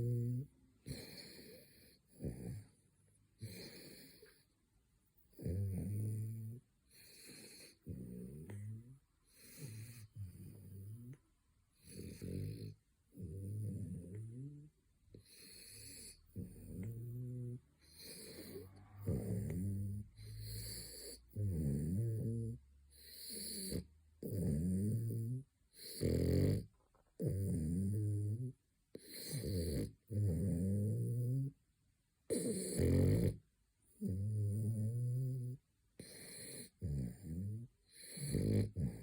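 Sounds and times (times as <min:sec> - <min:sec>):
dog snoring: 0:00.0 - 0:02.8, 0:03.4 - 0:04.5, 0:05.2 - 0:11.2, 0:11.8 - 0:31.6, 0:32.3 - 0:39.0.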